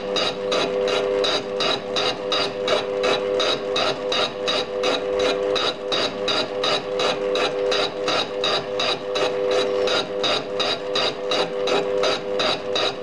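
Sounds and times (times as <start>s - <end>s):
cutter striking metal: 0.0s - 13.0s
lathe motor hum: 0.0s - 13.0s.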